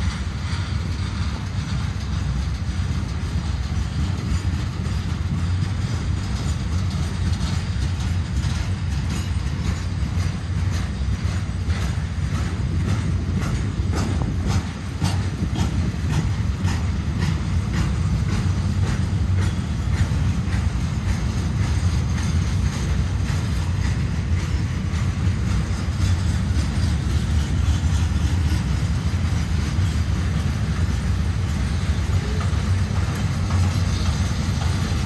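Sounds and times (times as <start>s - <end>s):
freight train rumbling: 0.0s - 35.0s
train wheel clicks: 0.0s - 35.0s.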